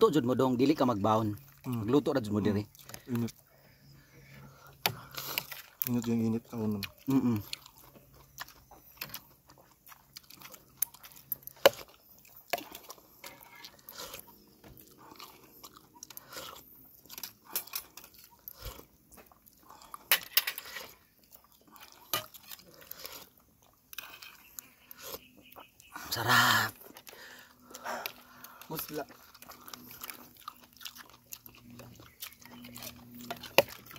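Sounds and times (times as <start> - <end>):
chewing and biting: 0.4 - 33.9.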